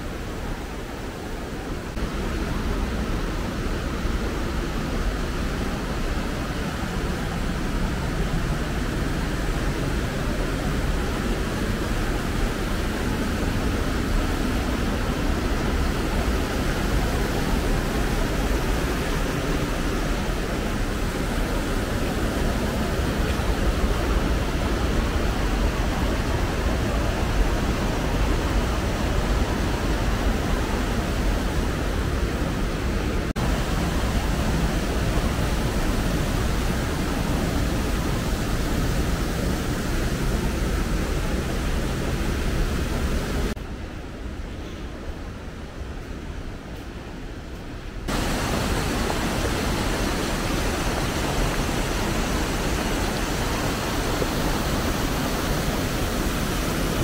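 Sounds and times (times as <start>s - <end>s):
rushing mountain stream: 0.0s - 57.0s.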